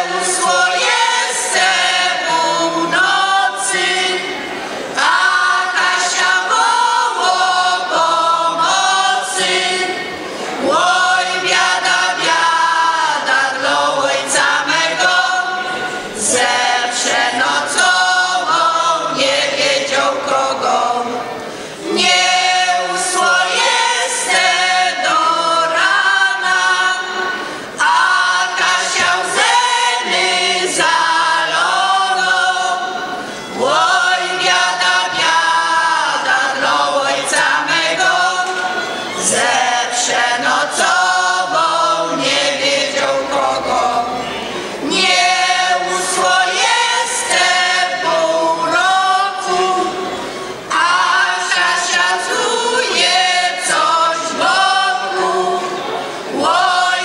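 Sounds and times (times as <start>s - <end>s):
group singing unaccompanied folk song: 0.0s - 57.0s.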